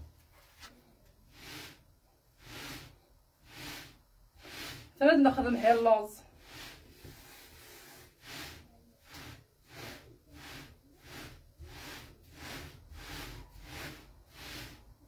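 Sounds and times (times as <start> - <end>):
palms swishing on flatbread: 0.3 - 15.0.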